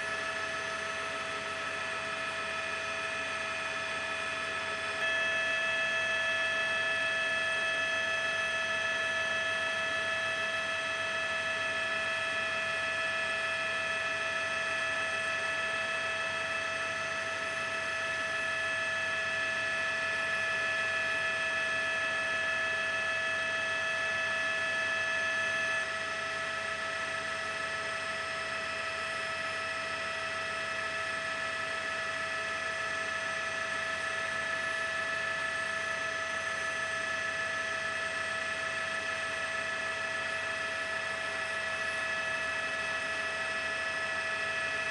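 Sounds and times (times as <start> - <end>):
helicopter turbine engine whine: 0.0 - 44.9.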